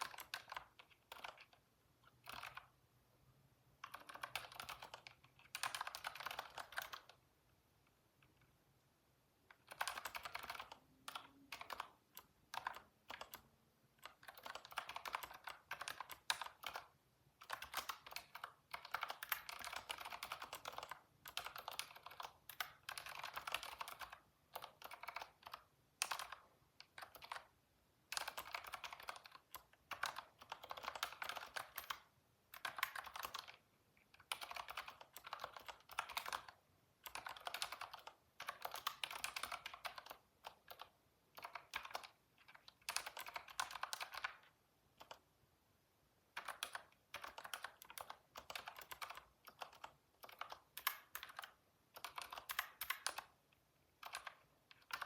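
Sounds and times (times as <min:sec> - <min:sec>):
typing on computer keyboard: 0:00.0 - 0:02.8, 0:03.8 - 0:07.2, 0:09.5 - 0:45.3, 0:46.3 - 0:55.0.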